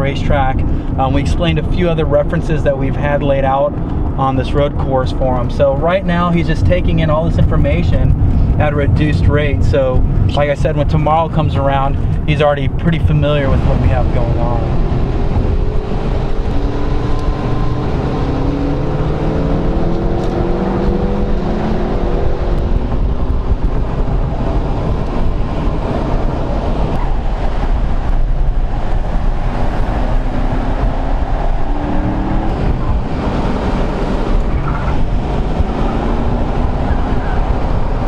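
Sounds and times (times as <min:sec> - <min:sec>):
car engine accelerating: 0:00.0 - 0:38.0
road and wind rumble: 0:00.0 - 0:38.0.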